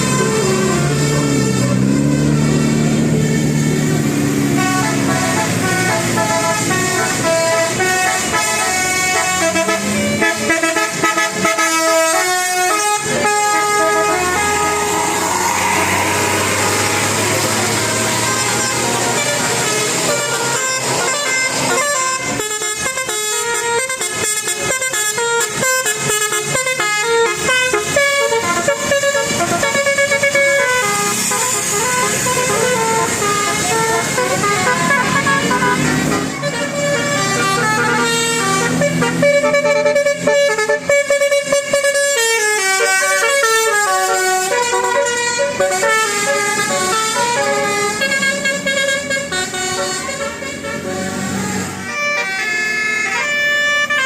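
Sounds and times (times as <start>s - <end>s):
bus air horn playing a tune: 0.0s - 54.0s.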